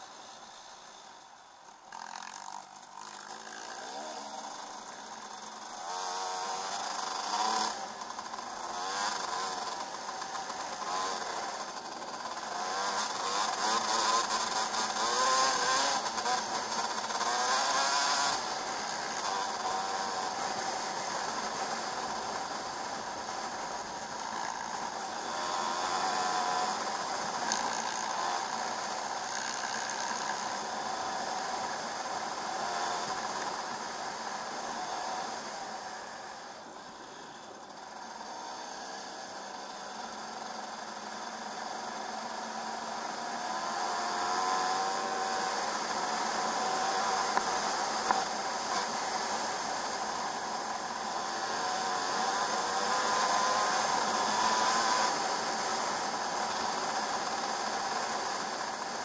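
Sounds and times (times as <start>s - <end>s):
two-stroke motorcycle engine revving: 1.8s - 59.0s.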